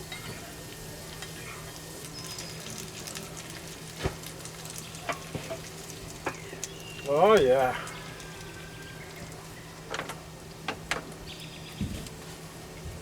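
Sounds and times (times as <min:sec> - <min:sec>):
meat sizzling in oil: 0:00.0 - 0:10.5.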